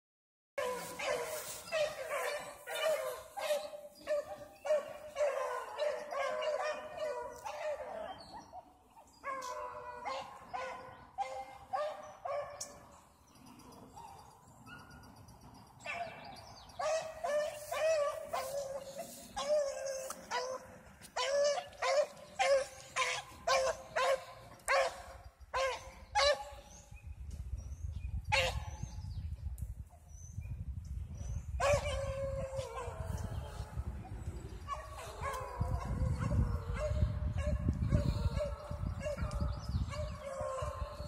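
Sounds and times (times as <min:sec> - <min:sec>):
dogs barking: 0:00.6 - 0:12.9, 0:15.8 - 0:26.7, 0:28.3 - 0:28.8, 0:31.6 - 0:41.0.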